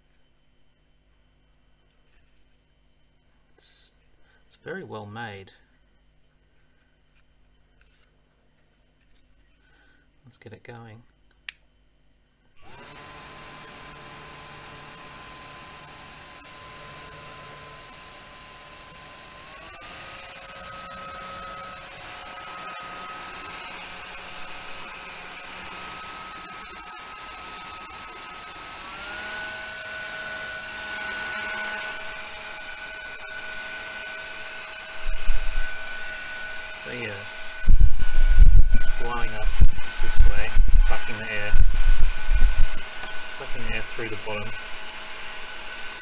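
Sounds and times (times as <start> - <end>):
fan motor whine: 0.0 - 46.0.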